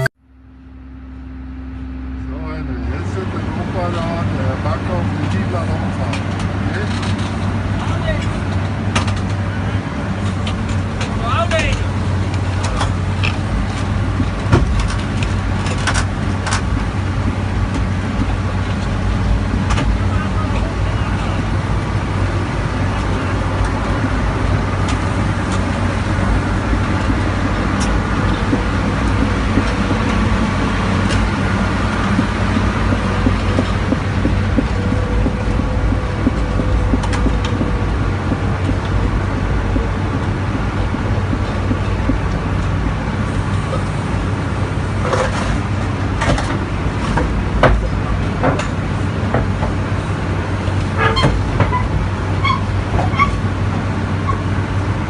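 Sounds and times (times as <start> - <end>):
heavy machinery engine: 0.0 - 55.0.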